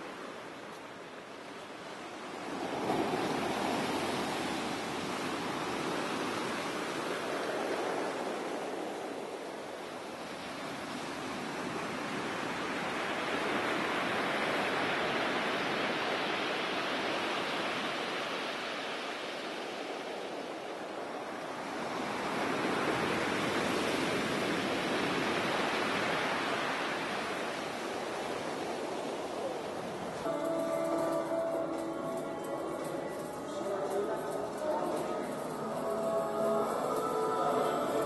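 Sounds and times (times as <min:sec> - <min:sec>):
waves on pebble beach: 0:00.0 - 0:38.0.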